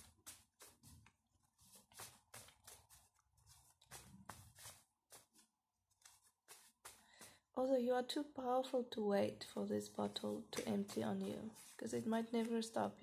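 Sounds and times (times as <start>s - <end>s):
cards being shuffled by hand: 0.0s - 7.5s, 9.8s - 13.0s.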